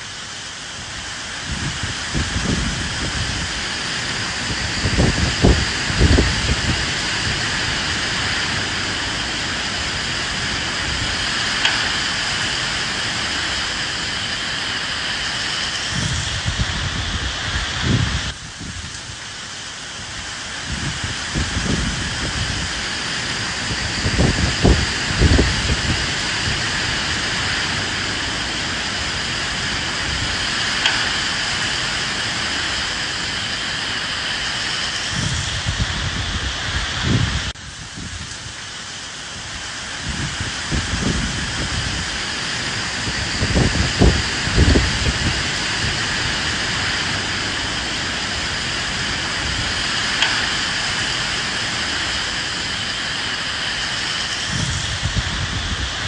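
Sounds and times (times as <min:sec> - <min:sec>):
rain hiss: 0:00.0 - 0:56.0
wind gusts: 0:00.0 - 0:56.0.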